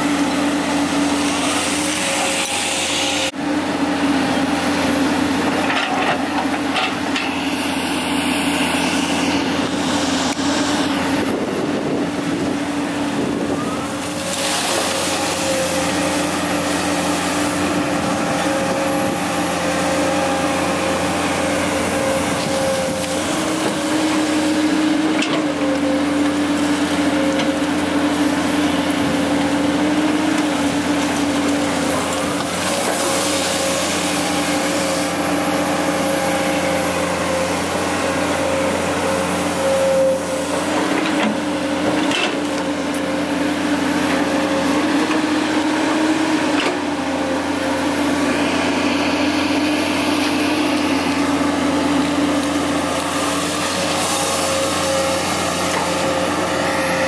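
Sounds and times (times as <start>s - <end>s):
hydraulic whine: 0.0s - 3.4s, 4.1s - 57.0s
excavator diesel engine under load: 0.0s - 57.0s.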